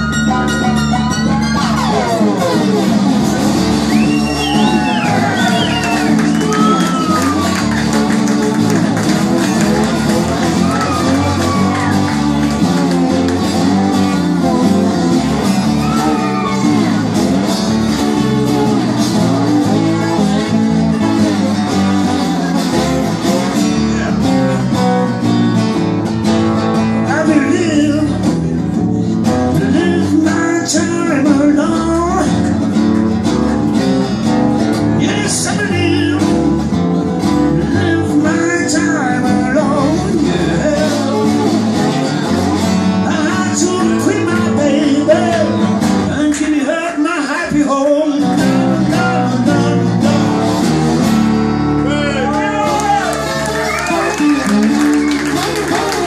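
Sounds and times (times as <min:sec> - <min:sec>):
electric bass: 0:00.0 - 0:56.0
slide acoustic guitar blues: 0:00.0 - 0:56.0.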